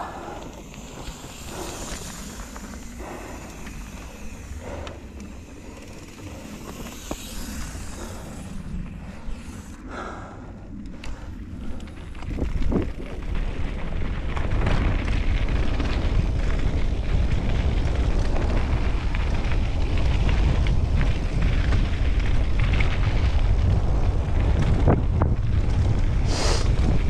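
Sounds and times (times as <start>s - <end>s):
bike clicks and rattles: 0.0s - 27.0s
bike tyres on gravel: 0.0s - 27.0s
wind buffeting microphone: 0.0s - 27.0s.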